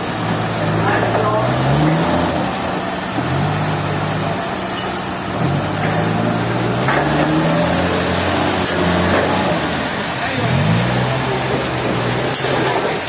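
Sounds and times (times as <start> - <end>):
large engine running: 0.0 - 13.0.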